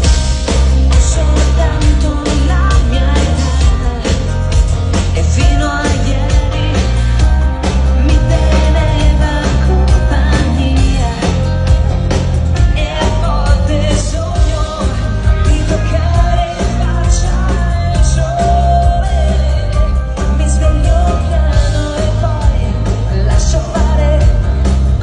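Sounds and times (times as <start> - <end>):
woman singing: 0.0 - 11.9, 12.5 - 25.0
live pop band playing: 0.0 - 25.0.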